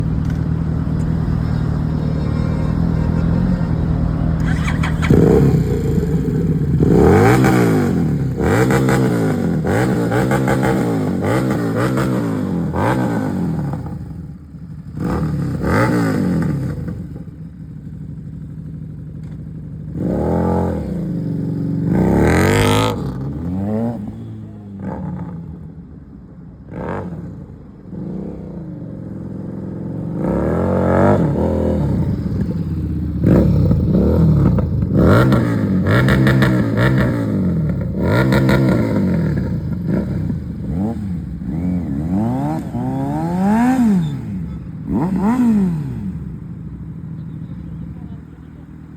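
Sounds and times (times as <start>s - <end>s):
motorcycle engine revving: 0.0s - 25.8s, 26.7s - 48.9s.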